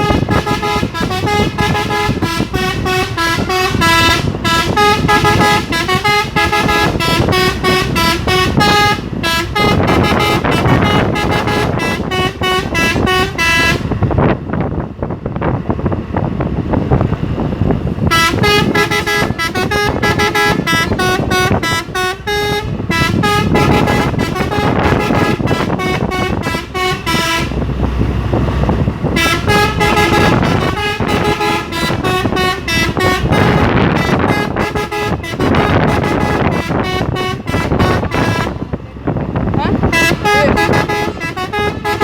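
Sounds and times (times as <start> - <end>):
musical truck horn: 0.0 - 14.6, 18.0 - 42.0
engine and road rumble: 0.0 - 42.0.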